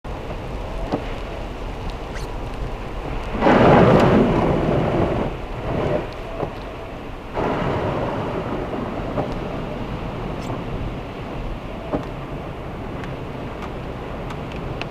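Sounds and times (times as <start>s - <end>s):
heavy rain on a car: 0.1s - 14.9s
rushing surge of water: 0.1s - 14.9s.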